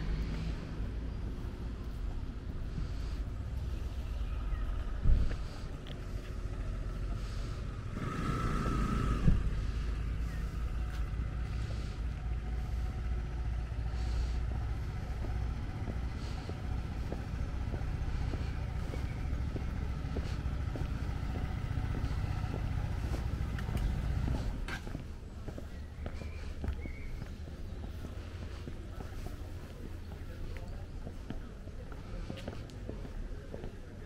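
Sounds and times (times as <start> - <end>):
low street rumble: 0.0 - 34.0.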